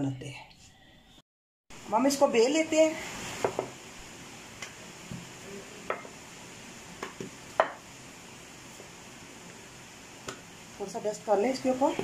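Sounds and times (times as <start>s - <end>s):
faint hiss: 1.7s - 12.0s.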